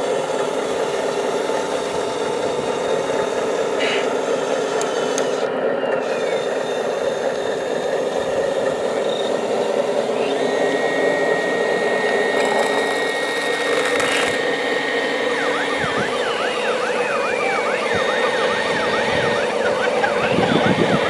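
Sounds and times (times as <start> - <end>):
electric hydraulic pump humming: 0.0 - 21.0
steady high tone: 0.0 - 21.0.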